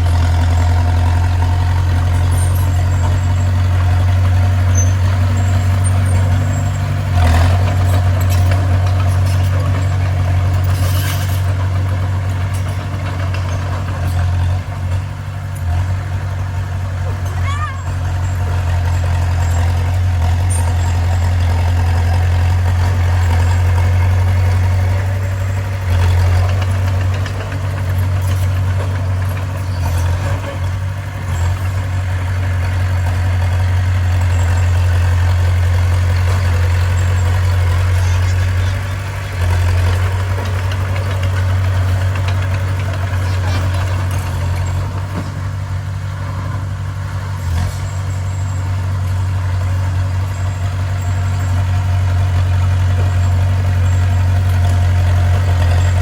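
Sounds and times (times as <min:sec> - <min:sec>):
bulldozer diesel engine droning: 0:00.0 - 0:56.0.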